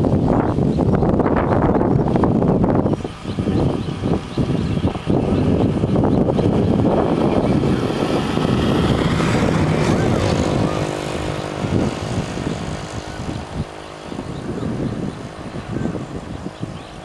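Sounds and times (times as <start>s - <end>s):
motor engine running: 0.0s - 17.0s.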